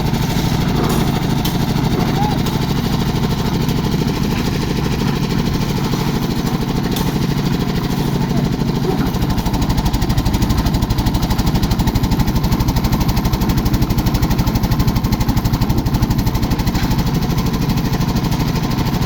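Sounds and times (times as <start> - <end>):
concrete mixer engine chugging: 0.0 - 19.0.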